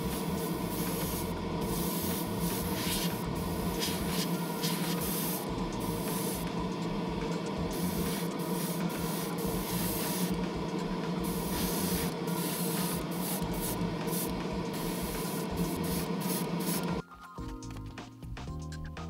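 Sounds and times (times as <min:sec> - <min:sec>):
paint spraying hiss: 0:00.0 - 0:17.0
steady hum: 0:00.0 - 0:17.0.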